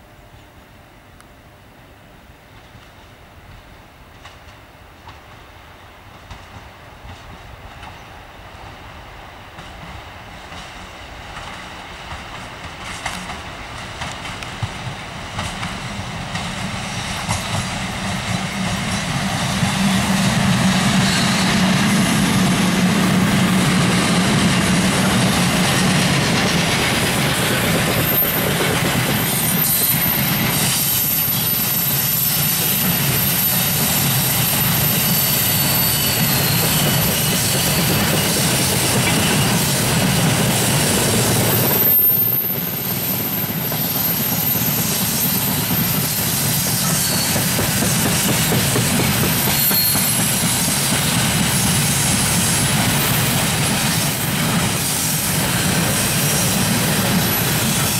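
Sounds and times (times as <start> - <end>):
train wheels clattering over rail joints: 9.6 - 57.9
electric locomotive hum: 10.8 - 57.9.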